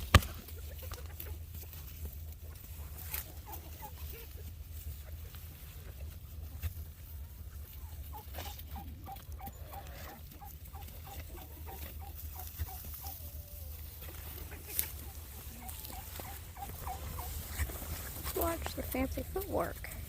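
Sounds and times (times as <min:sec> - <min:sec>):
poultry bird calling softly: 0:02.4 - 0:20.0.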